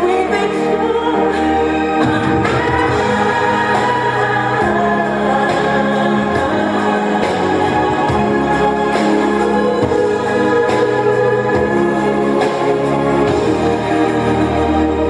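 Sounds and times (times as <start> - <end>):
choir-like singing: 0.0 - 15.0.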